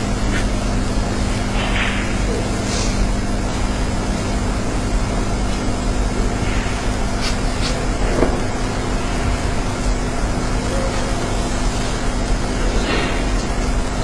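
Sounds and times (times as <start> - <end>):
steady hiss and low hum: 0.0 - 14.0.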